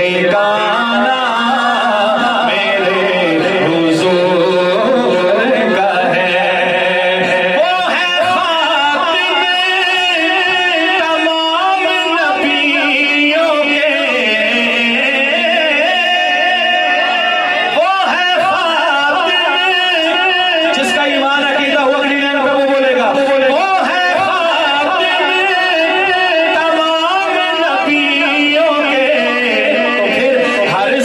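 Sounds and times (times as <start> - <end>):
man singing devotional song: 0.0 - 31.0.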